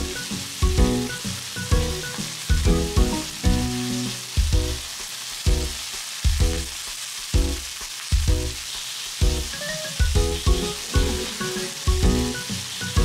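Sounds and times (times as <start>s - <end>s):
background music with steady beat: 0.0s - 13.0s
chicken sizzling in frying pan: 0.0s - 13.0s.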